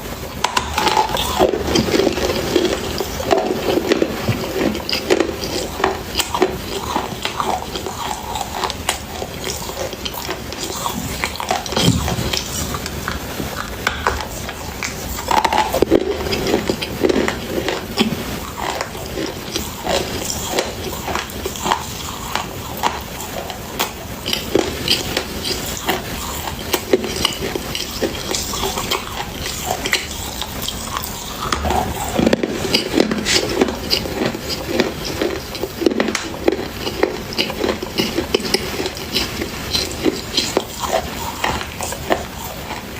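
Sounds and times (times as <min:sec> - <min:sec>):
chewing: 0:00.0 - 0:42.9
crunching while eating: 0:00.0 - 0:42.9.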